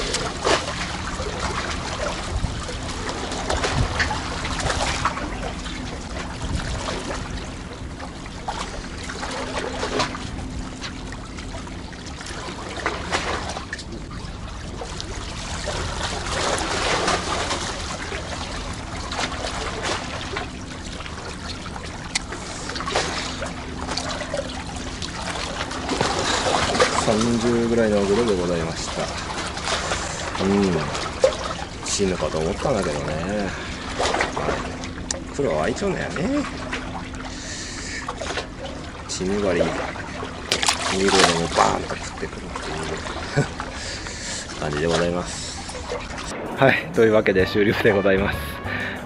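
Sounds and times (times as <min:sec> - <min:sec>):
sea water sloshing against concrete: 0:00.0 - 0:46.4.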